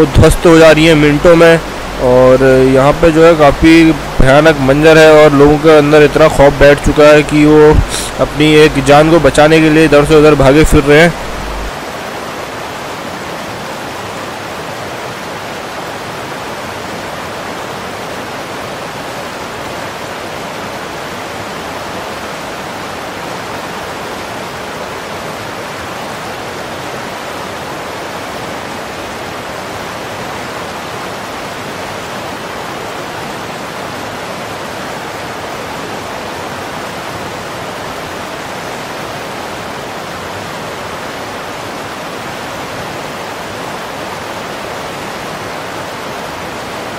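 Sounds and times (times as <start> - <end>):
floodwater rushing: 0.0 - 46.9.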